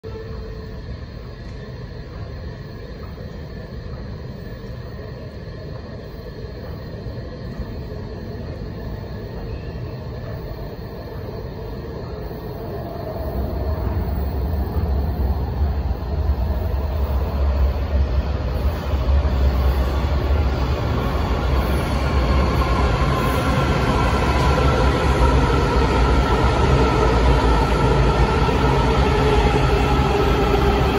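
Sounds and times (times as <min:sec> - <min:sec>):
train rumbling in tunnel: 0:00.0 - 0:30.9.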